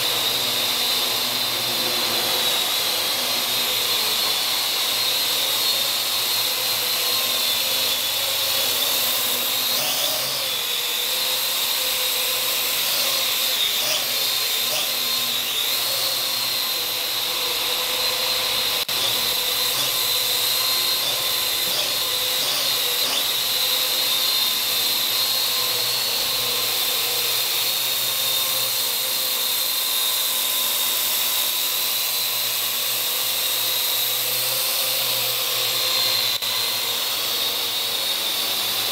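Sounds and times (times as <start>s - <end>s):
drone propellers whining: 0.0s - 38.9s.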